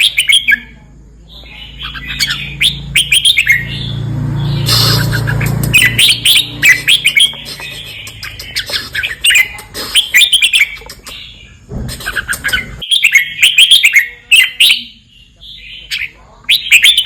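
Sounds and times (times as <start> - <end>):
bird singing chirpy notes: 0.0 - 17.0.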